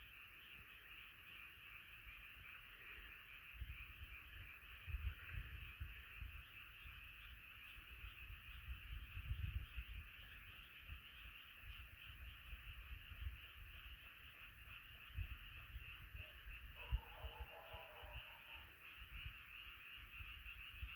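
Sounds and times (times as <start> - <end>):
chorus of frogs calling: 0.0 - 20.9.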